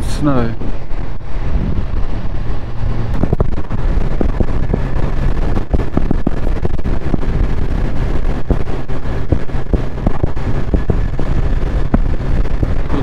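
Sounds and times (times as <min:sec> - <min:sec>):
wind buffeting on microphone: 0:00.0 - 0:13.0
motorcycle engine running: 0:00.5 - 0:13.0.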